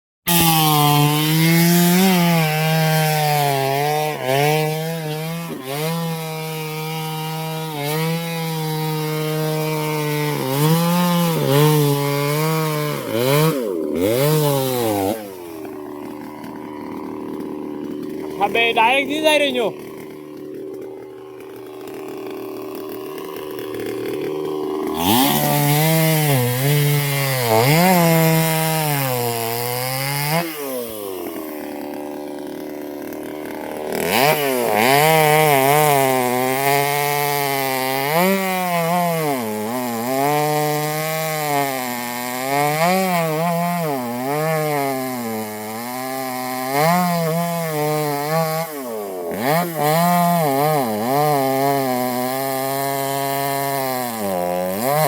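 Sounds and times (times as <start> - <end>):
chainsaw cutting wood: 0.3 - 55.0.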